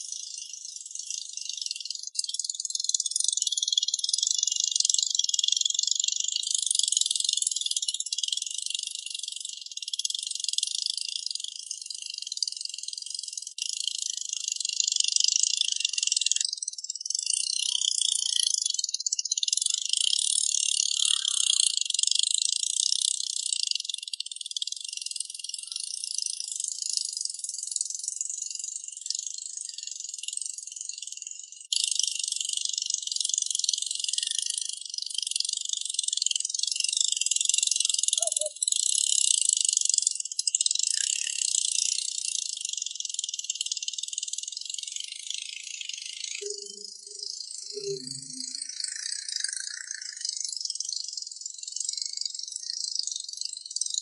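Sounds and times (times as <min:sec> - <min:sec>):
high-pitched insect chorus: 0:06.5 - 0:54.0.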